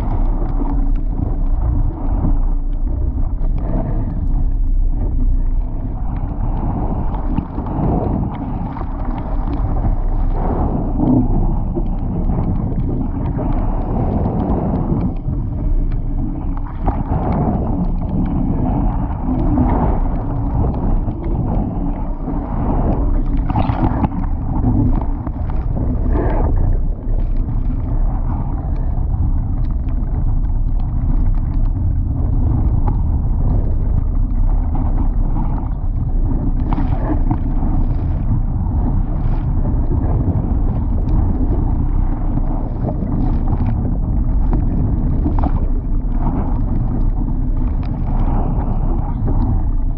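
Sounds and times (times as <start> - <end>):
water rushing along hull: 0.0 - 49.9
wind buffeting microphone: 0.0 - 49.9.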